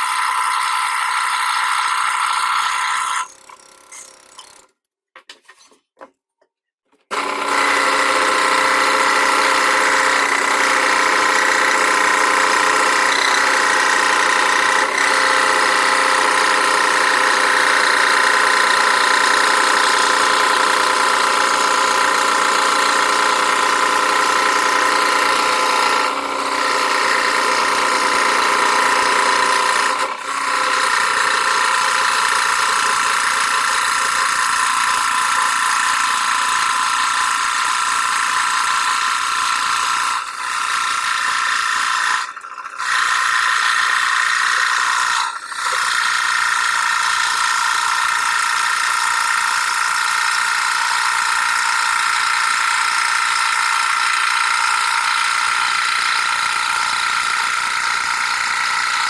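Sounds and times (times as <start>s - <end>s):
scroll saw cutting plywood: 0.0s - 4.8s, 7.0s - 59.0s.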